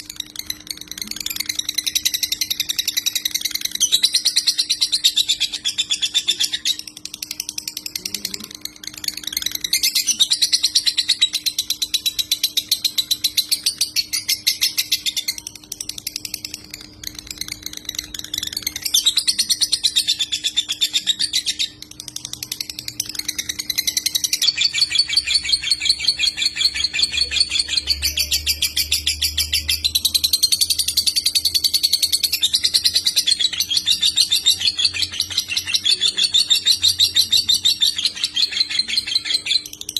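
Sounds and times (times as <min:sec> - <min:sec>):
faint steady hum: 0:00.0 - 0:39.9
lovebird chattering trills: 0:00.0 - 0:39.9.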